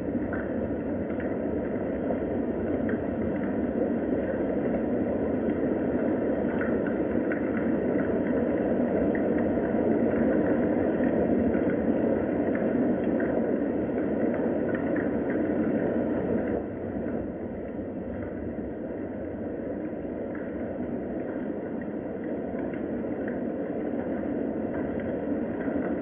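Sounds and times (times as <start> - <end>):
steady rain patter: 0.2 - 26.0.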